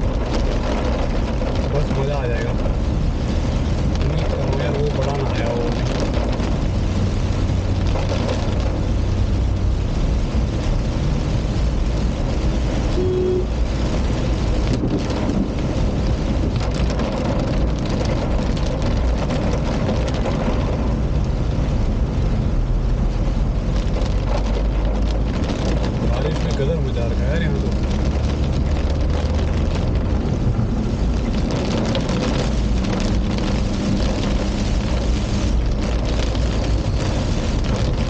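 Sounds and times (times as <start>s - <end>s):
car engine and road drone: 0.0s - 38.0s
rain hissing on car: 0.0s - 38.0s.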